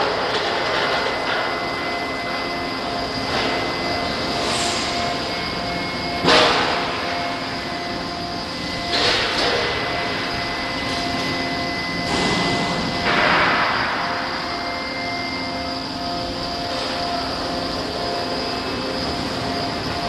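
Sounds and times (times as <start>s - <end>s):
hydraulic shear noise surges: 0.0s - 20.0s
machinery hum: 0.0s - 20.0s.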